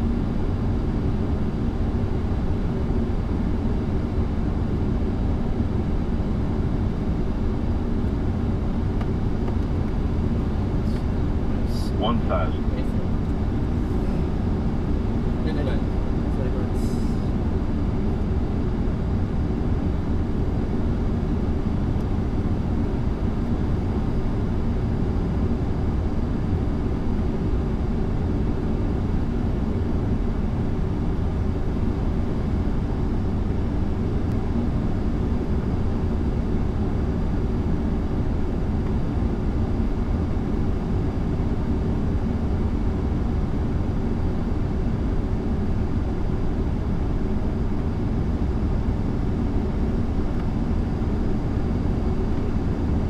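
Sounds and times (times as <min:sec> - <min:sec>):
aircraft engine rumble: 0:00.0 - 0:53.0
faint high whine: 0:00.0 - 0:53.0.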